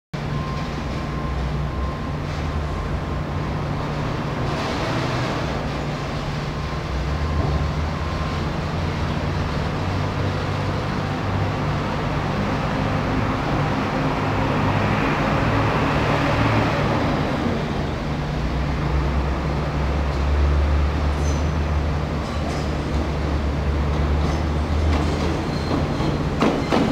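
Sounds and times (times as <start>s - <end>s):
electric train rumbling: 0.2s - 26.9s.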